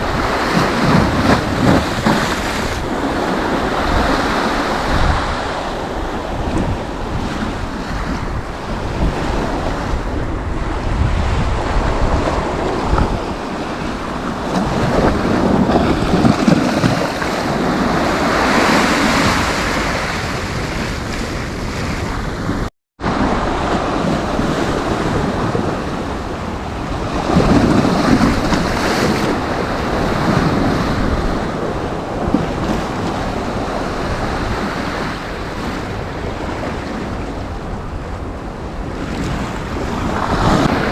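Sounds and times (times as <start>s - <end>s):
sea waves breaking on beach: 0.0s - 40.9s
wind buffeting microphone: 0.0s - 40.9s.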